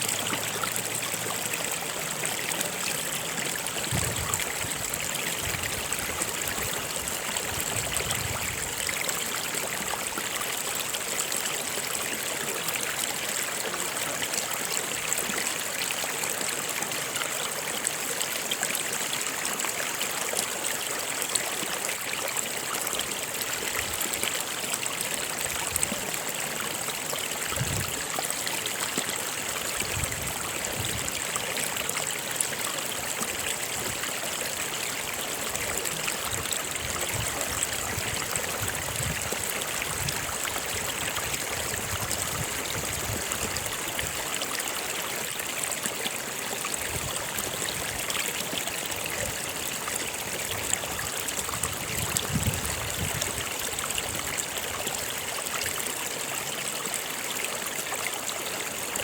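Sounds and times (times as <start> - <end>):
stream water rushing: 0.0 - 59.0
water trickling: 0.0 - 59.0.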